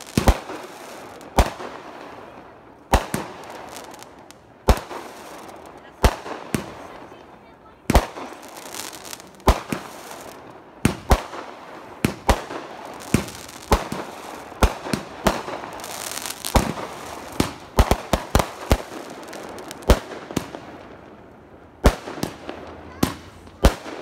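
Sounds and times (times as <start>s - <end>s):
fireworks banging: 0.0s - 24.0s
fireworks crackling: 0.0s - 24.0s.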